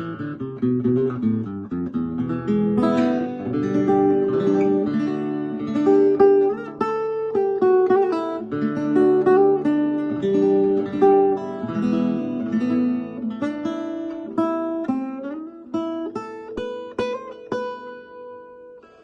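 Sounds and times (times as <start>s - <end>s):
acoustic guitar plucked notes and chords: 0.0s - 19.0s.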